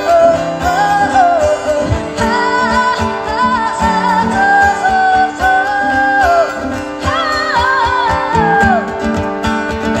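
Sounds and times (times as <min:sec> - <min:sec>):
woman singing: 0:00.0 - 0:09.3
acoustic guitar strumming: 0:00.0 - 0:10.0.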